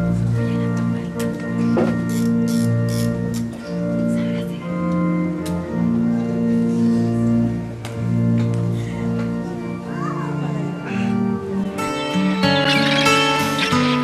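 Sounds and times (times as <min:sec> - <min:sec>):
organ chords: 0:00.0 - 0:14.0.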